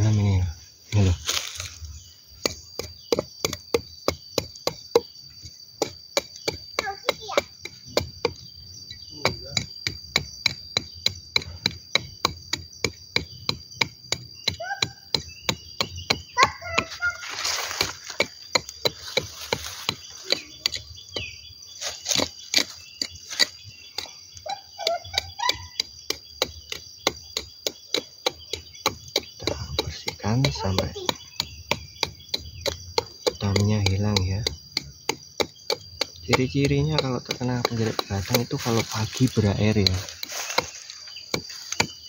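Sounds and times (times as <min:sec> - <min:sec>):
knife chopping into tree bark: 0:02.4 - 0:24.2, 0:25.8 - 0:42.0.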